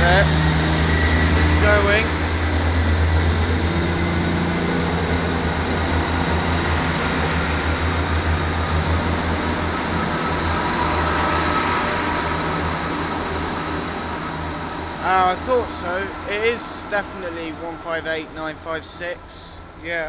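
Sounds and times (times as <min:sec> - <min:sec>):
diesel train engines droning: 0:00.0 - 0:20.0.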